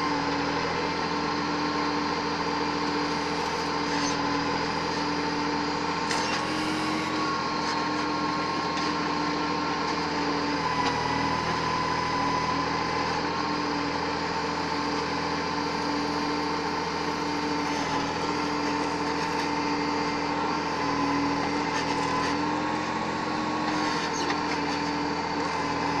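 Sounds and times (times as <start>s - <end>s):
backhoe engine whining: 0.0s - 26.0s.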